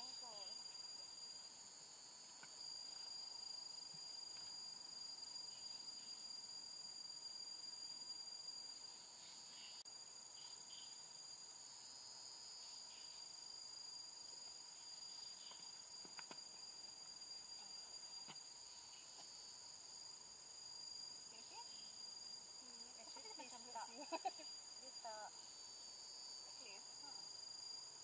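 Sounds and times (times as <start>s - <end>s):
high-pitched insect drone: 0.0s - 28.0s.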